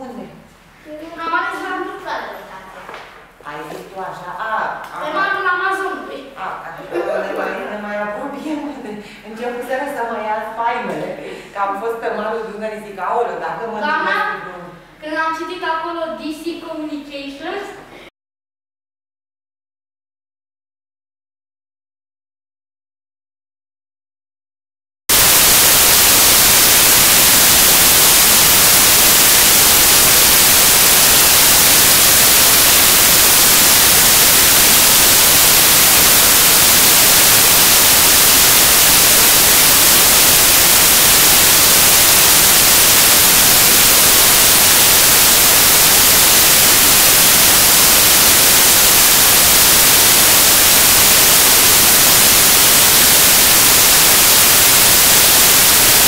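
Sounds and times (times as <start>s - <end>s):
loud static hiss: 0.0s - 17.1s, 25.1s - 56.0s.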